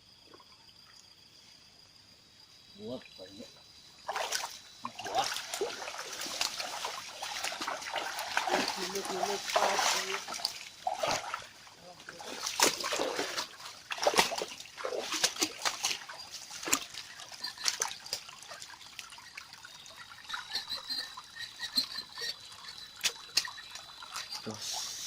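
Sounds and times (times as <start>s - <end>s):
river water splashing: 4.0s - 25.0s.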